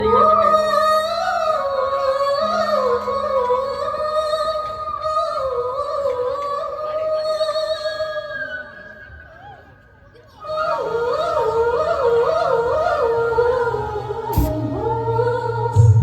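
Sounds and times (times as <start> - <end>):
woman singing: 0.0 - 8.7, 10.4 - 16.0.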